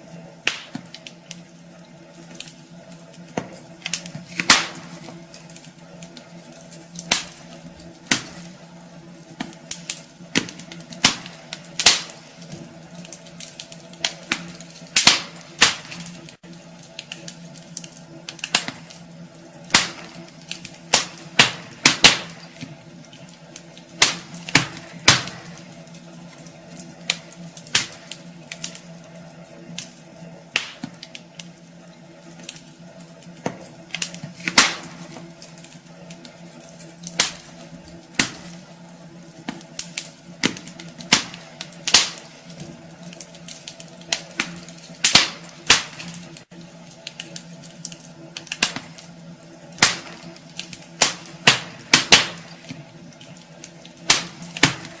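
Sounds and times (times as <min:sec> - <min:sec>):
fireplace logs crackling: 0:00.0 - 0:55.0
steady low hum: 0:00.0 - 0:55.0.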